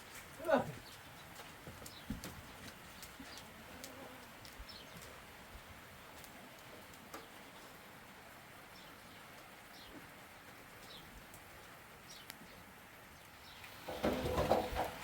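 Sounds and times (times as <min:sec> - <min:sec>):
faint rain hiss: 0:00.0 - 0:15.0.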